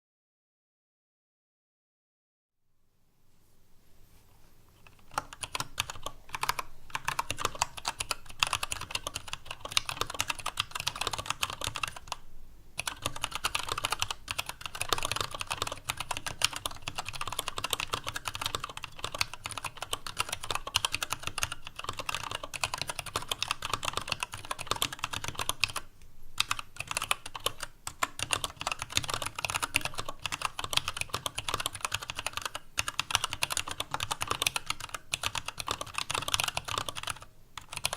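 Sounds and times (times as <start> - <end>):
mechanical keyboard typing: 4.8 - 12.2, 12.8 - 37.9.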